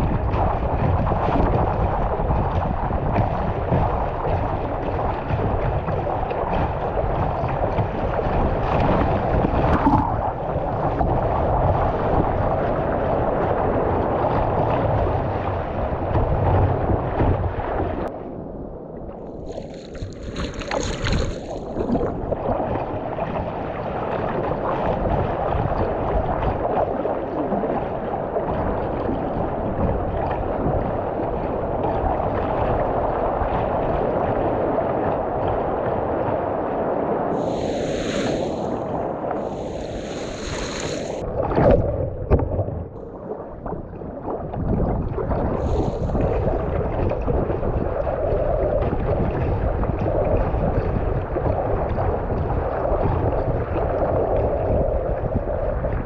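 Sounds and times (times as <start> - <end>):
rushing water: 0.0 - 18.1, 19.1 - 56.0
wind buffeting microphone: 0.0 - 56.0.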